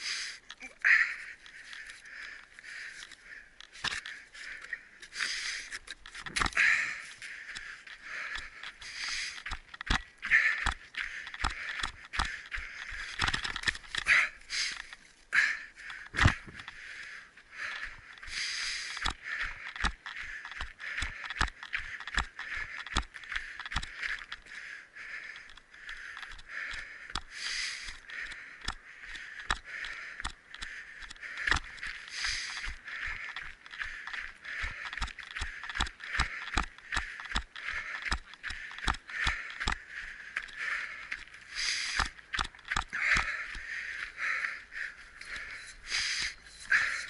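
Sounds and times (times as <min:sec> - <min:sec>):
running footsteps: 0:00.0 - 0:47.0.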